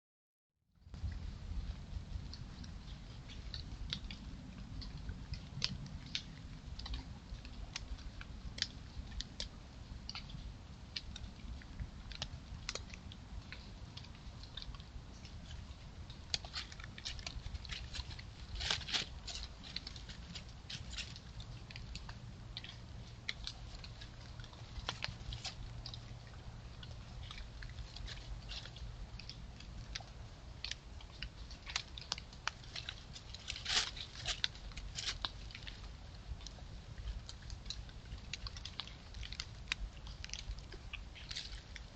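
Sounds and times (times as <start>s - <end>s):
crackling clicks and rustles: 0.7s - 41.9s
low steady hum: 0.7s - 41.9s.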